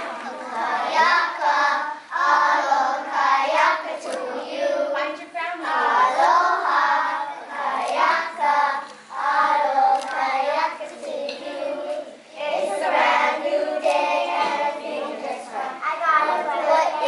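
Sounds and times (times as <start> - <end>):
children singing: 0.0 - 5.0, 5.6 - 17.0.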